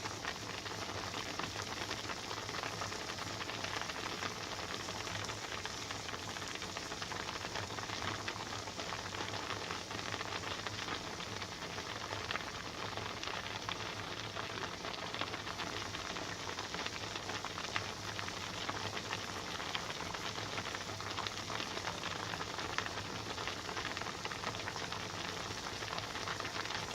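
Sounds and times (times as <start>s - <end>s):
water boiling and bubbling: 0.0s - 26.9s.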